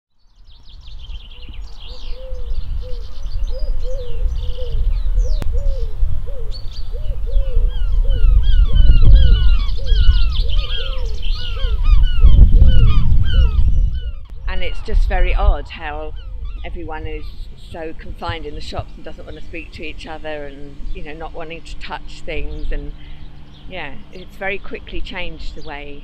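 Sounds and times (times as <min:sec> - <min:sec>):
flock of birds calling: 0:01.0 - 0:26.0
low rumble: 0:01.2 - 0:26.0.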